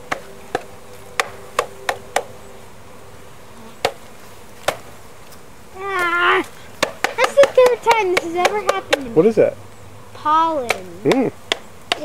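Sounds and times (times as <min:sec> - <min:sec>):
bees humming: 0:00.0 - 0:12.0.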